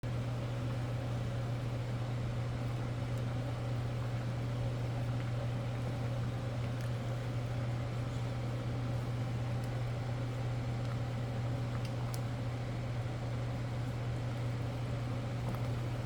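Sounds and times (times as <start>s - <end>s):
kitchen appliance humming: 0.1s - 16.0s.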